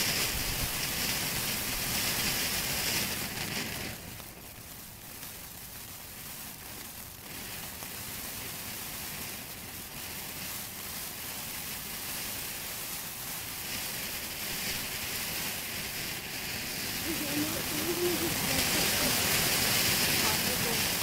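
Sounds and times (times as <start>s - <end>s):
firework fountain hissing: 0.0s - 21.0s.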